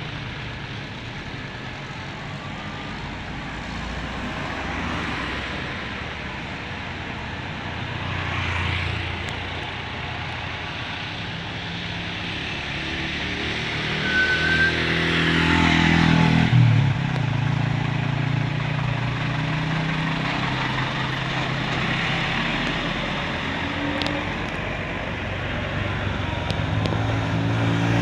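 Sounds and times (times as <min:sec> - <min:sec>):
bus engine passing by: 0:00.0 - 0:28.0.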